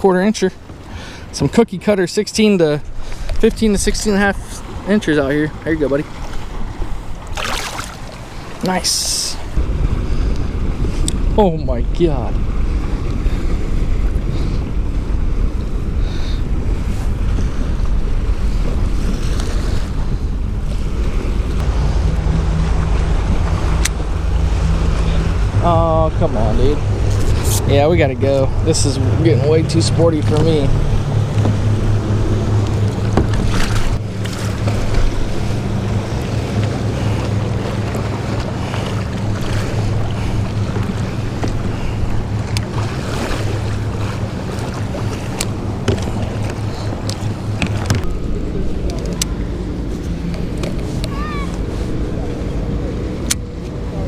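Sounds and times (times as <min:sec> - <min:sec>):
waves splashing: 0:00.0 - 0:54.0
wind buffeting microphone: 0:00.0 - 0:54.0
steady low hum: 0:00.1 - 0:54.0.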